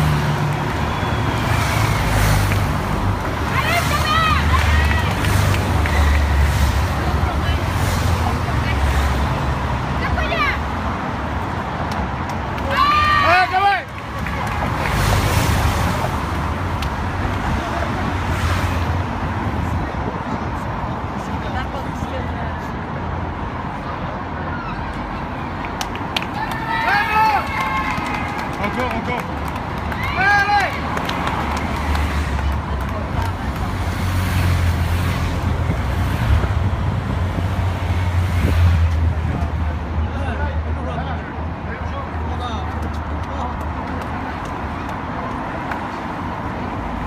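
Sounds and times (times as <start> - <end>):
cars driving past: 0.0 - 47.0.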